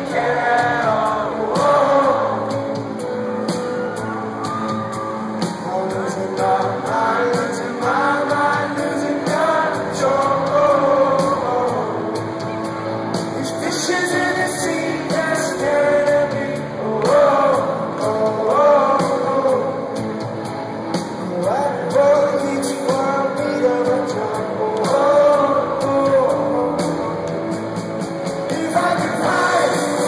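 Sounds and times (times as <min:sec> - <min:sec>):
live rock band playing: 0:00.0 - 0:30.0
male lead singer: 0:00.0 - 0:30.0.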